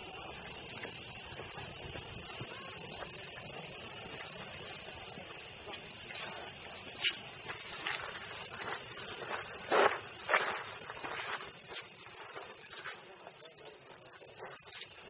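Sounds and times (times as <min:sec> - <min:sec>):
cicadas droning: 0:00.0 - 0:15.0
footsteps: 0:00.2 - 0:14.9.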